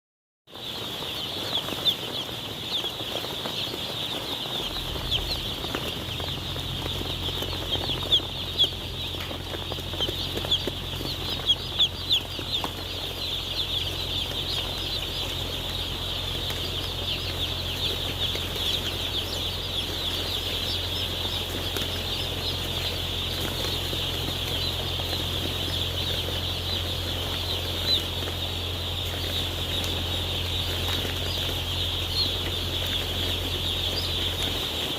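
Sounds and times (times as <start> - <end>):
chicks peeping: 0.5 - 34.9
steady low hum: 0.9 - 34.9.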